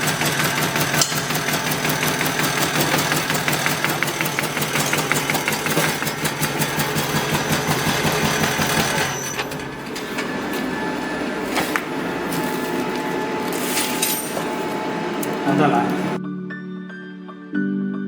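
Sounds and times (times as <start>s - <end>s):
machine punching strokes: 0.0s - 16.2s
motor hum: 0.0s - 16.2s.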